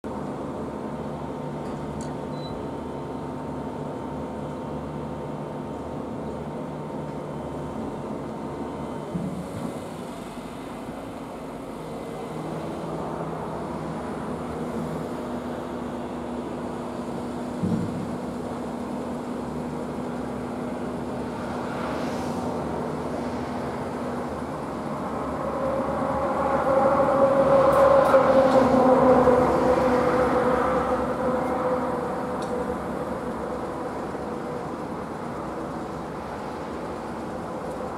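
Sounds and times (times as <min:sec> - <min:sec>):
crane diesel engine running: 0:00.1 - 0:37.9.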